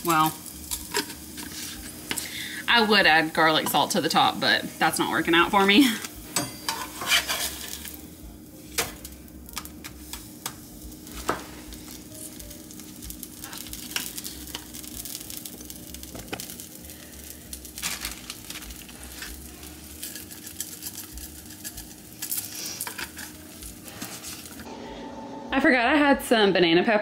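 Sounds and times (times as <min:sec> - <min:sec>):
quesadilla sizzling in skillet: 0:00.0 - 0:25.0.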